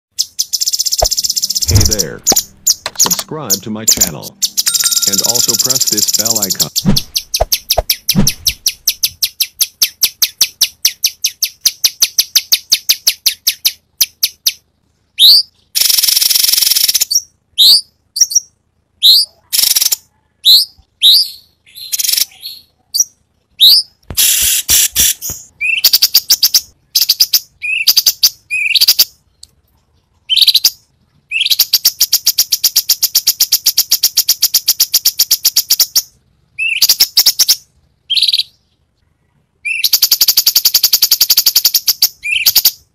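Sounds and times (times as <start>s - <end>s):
songbird singing with trills: 0.2s - 14.6s, 15.2s - 24.0s, 25.5s - 29.1s, 30.3s - 36.0s, 36.6s - 38.7s, 39.6s - 42.8s.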